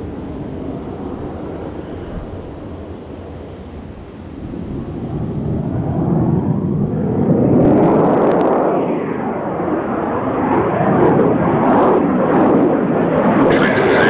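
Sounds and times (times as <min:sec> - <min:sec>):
jet engine roaring overhead: 0:00.0 - 0:14.0.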